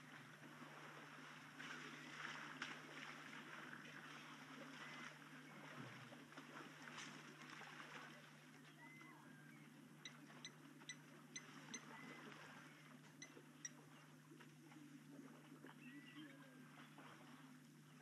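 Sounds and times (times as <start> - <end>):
elephants sloshing in water: 0.0 - 18.0
low electrical hum: 0.0 - 18.0.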